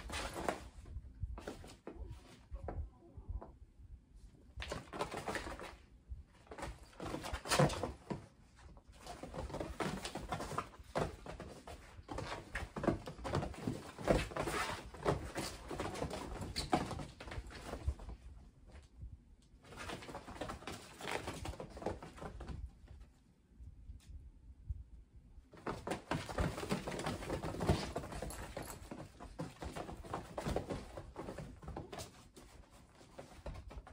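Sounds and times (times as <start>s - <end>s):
kittens scampering and wrestling: 0.0s - 3.6s, 4.3s - 23.2s, 25.5s - 33.9s.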